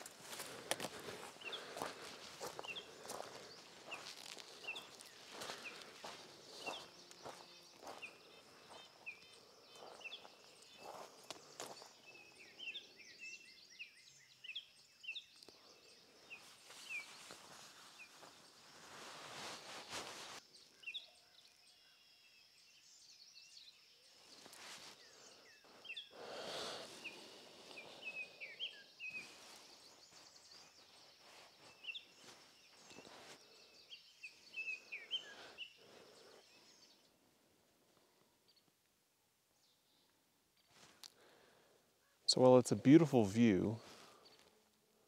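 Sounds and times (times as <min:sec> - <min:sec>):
small birds chirping: 0:00.0 - 0:38.9, 0:39.5 - 0:45.0.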